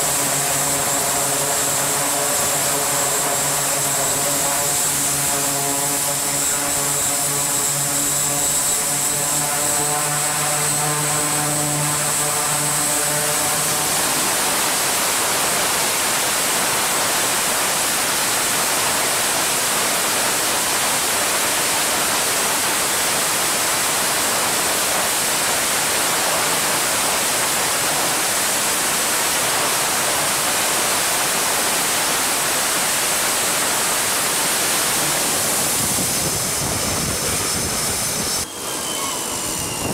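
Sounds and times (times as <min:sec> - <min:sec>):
humming propeller tone: 0:00.0 - 0:39.9
thin high whine: 0:00.0 - 0:39.9
turboprop engines running: 0:00.0 - 0:39.9.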